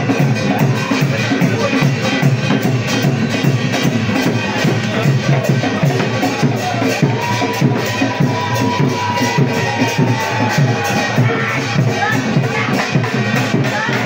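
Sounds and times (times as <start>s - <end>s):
music with fast drum beat: 0.0s - 14.0s.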